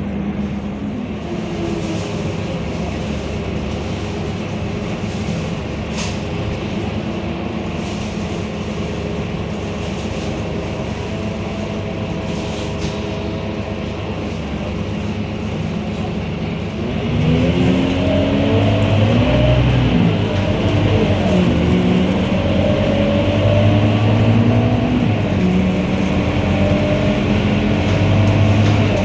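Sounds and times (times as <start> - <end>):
bus diesel engine running: 0.0 - 29.0
road noise: 0.0 - 29.0.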